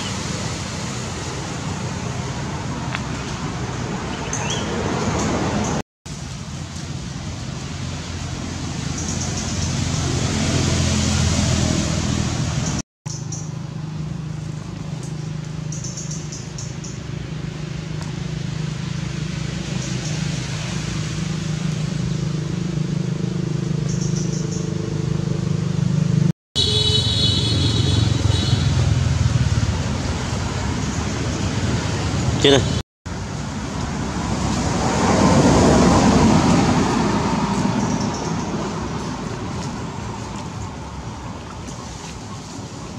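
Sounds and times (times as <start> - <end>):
low engine hum: 0.0 - 26.3, 33.1 - 42.9.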